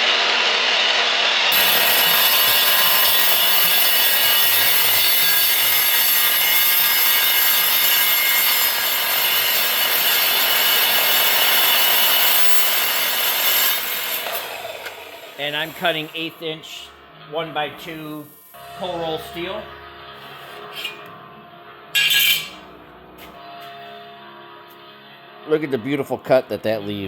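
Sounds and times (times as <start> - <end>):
saw cutting steel screech: 0.1 - 21.2, 21.9 - 22.7.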